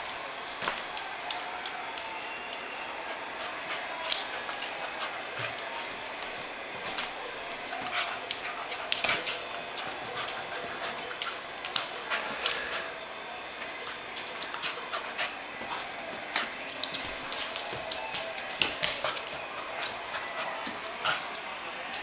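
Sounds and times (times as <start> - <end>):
dog claws clicking on wood floor: 0.6 - 2.7, 3.7 - 12.8, 13.6 - 22.0.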